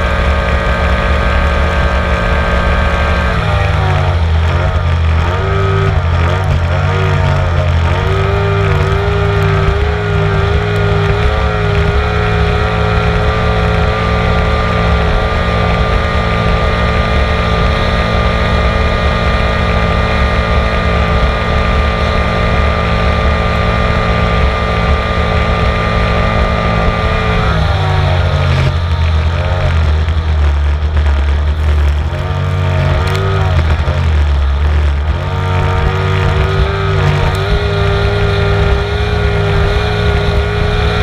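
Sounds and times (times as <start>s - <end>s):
motorboat engine running hard: 0.0s - 41.0s
wind noise on microphone: 0.0s - 41.0s.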